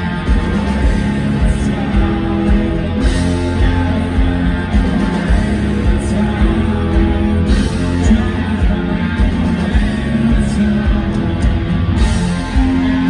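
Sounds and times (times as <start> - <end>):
live rock band: 0.0 - 13.0.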